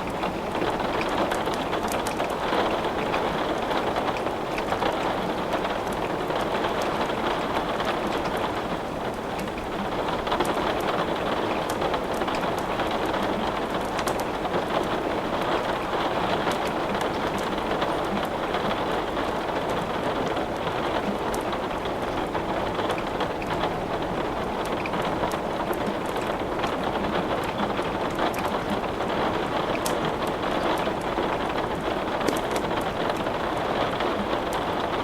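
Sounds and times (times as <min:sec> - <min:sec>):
steady rain falling: 0:00.0 - 0:35.0
wood crackling in fireplace: 0:00.0 - 0:35.0.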